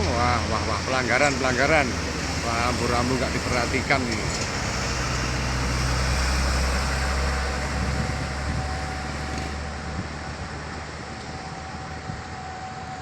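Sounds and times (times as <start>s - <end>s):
diesel vehicle passing: 0.0s - 11.9s
traffic noise: 0.0s - 13.0s.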